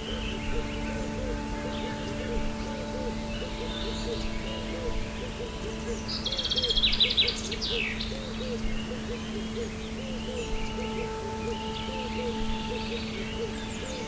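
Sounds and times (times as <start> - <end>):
soft repeated low notes: 0.0 - 14.0
songbird trilling: 0.0 - 14.0
steady low drone: 0.0 - 14.0.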